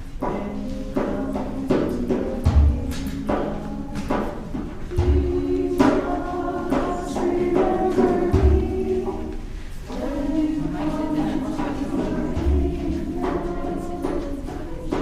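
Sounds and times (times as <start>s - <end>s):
deep drum beat: 0.1s - 15.0s
choir singing: 0.2s - 15.0s.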